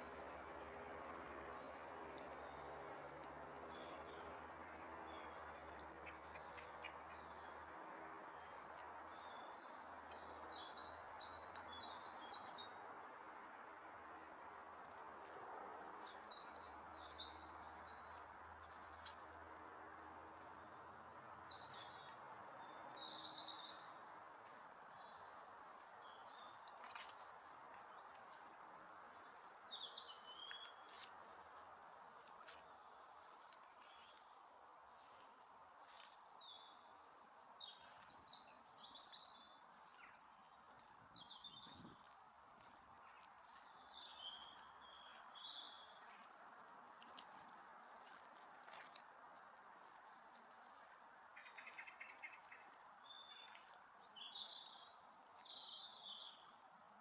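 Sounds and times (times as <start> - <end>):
small birds chirping: 3.4 - 57.0.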